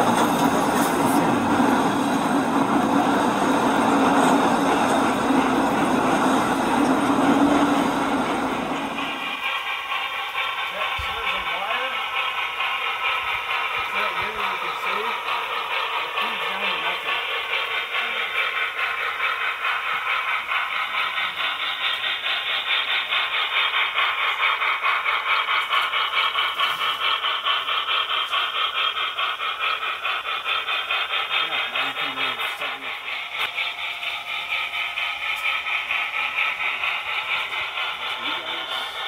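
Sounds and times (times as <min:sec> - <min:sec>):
model train running: 0:00.0 - 0:39.0.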